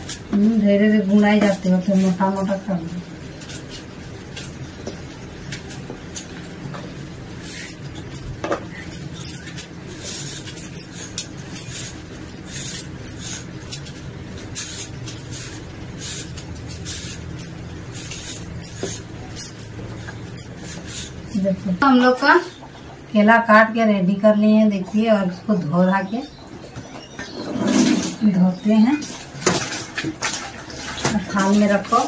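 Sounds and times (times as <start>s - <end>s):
steady low hum: 0.0s - 27.3s.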